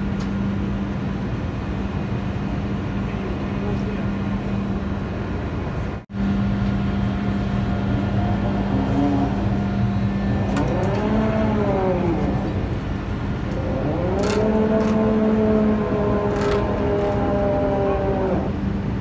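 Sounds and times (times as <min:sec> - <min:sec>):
deck machinery hum: 0:00.0 - 0:19.0.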